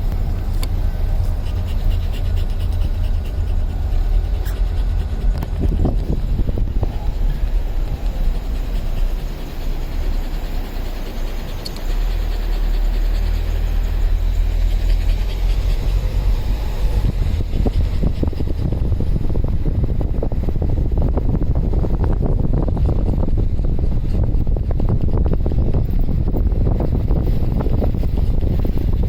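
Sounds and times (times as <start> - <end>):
car road noise rumble: 0.0 - 29.0.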